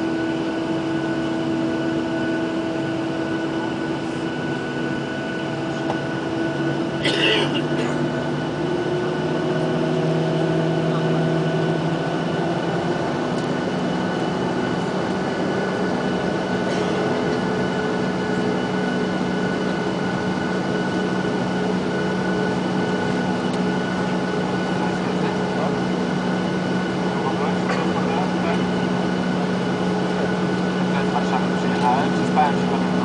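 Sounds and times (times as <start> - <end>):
jet engine hum and whine: 0.0 - 33.0.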